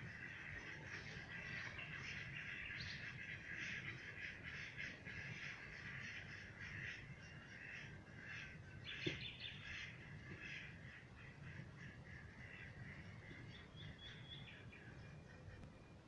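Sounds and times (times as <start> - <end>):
birds calling in chorus: 0.0 - 15.8.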